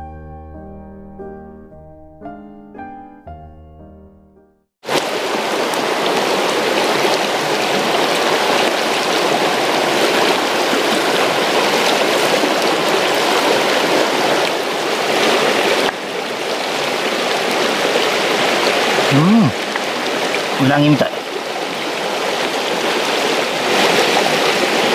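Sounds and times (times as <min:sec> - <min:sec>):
mountain stream water rushing: 0:04.8 - 0:24.9.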